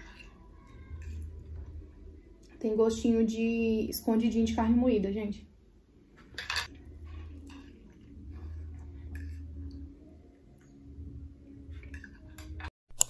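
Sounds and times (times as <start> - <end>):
low steady hum: 0.0 - 12.7.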